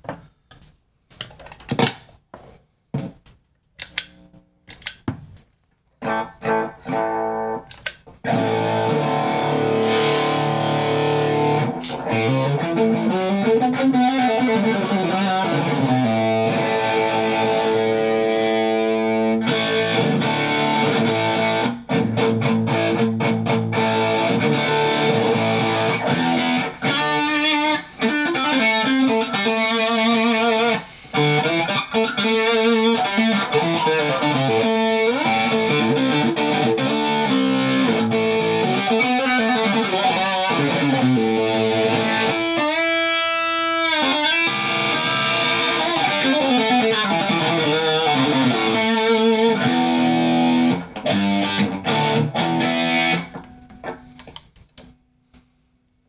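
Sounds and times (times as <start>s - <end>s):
distorted electric guitar: 6.0s - 54.3s.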